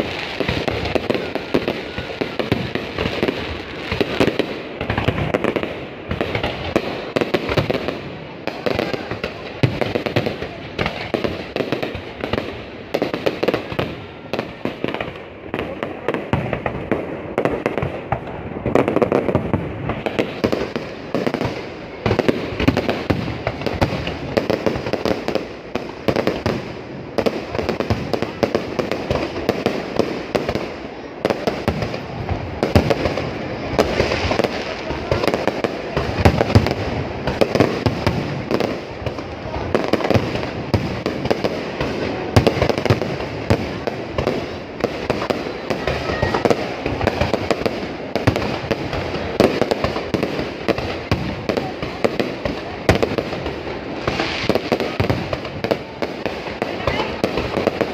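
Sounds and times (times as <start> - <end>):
fireworks bangs and crackle: 0.0 - 57.9.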